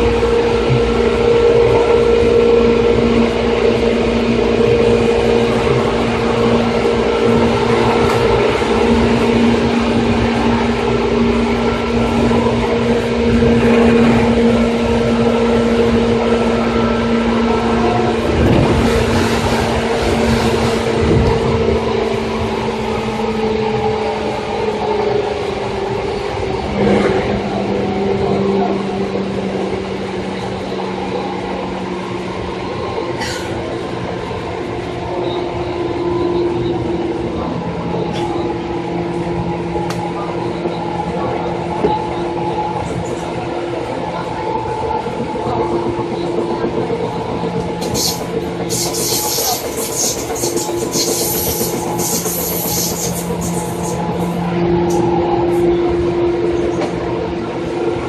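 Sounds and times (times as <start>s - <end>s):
wheel and rail noise: 0.0s - 58.0s.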